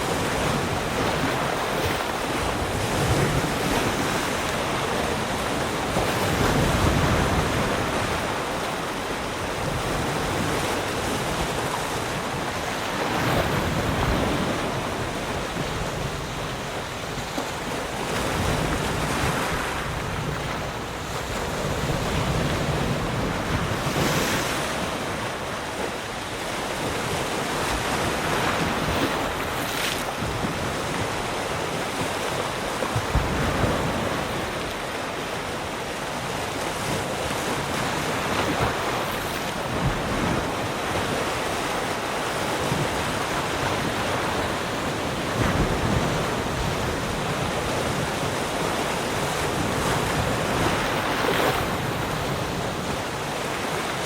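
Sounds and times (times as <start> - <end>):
wind on microphone: 0.0 - 34.9, 36.8 - 54.0
waves breaking on shore: 0.0 - 54.0.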